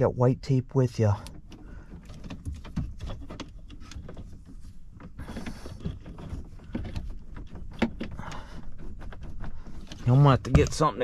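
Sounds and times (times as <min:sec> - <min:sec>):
clicks and taps of wiring: 0:01.1 - 0:11.0.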